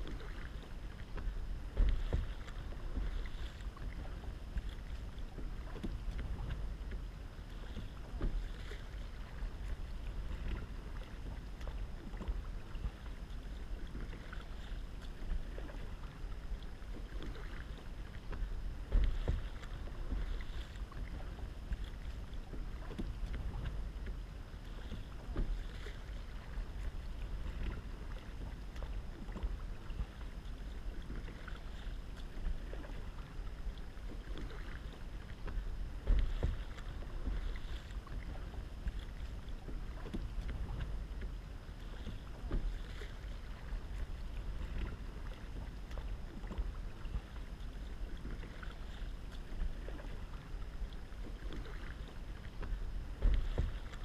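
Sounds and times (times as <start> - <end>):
paddle strokes splashing: 0.0 - 54.0
wind rumble on microphone: 0.0 - 54.0.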